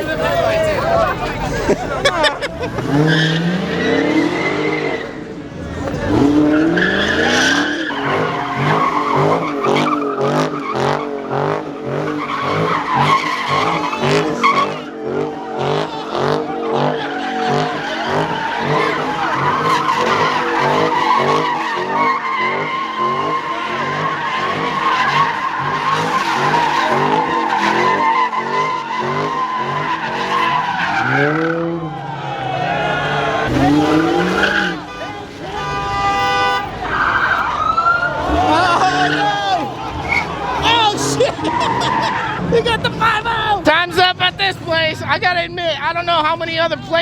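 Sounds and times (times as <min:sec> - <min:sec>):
car engine revving high: 0:00.0 - 0:44.0
tires screeching: 0:00.0 - 0:47.0.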